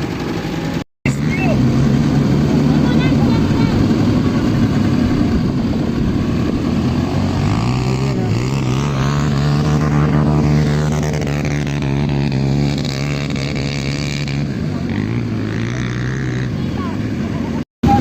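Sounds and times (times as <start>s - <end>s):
atv engine at varying throttle: 0.0s - 18.0s.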